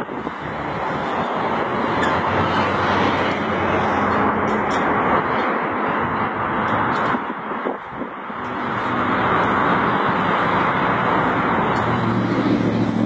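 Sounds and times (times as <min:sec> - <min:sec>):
road traffic rushing past: 0:00.0 - 0:13.0.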